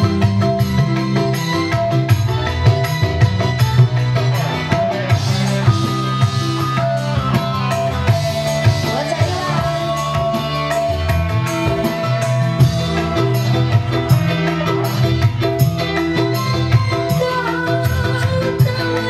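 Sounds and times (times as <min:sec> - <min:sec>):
electronic keyboard melody: 0:00.0 - 0:19.0
steady drum beat: 0:00.0 - 0:19.0.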